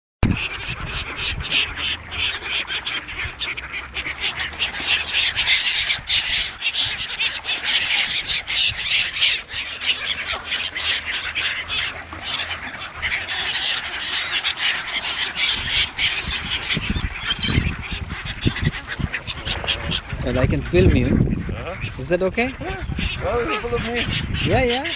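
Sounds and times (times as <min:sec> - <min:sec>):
ducks quacking: 0:00.2 - 0:24.9.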